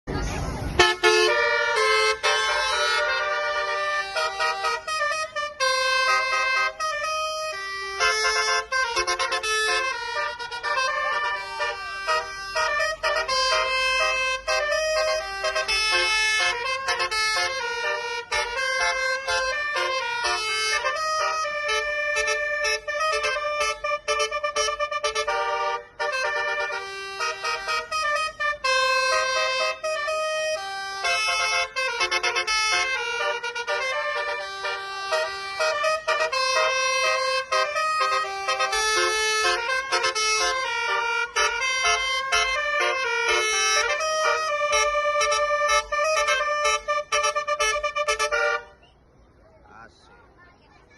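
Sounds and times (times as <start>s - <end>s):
multi-trumpet air horn tune: 0.8s - 48.8s.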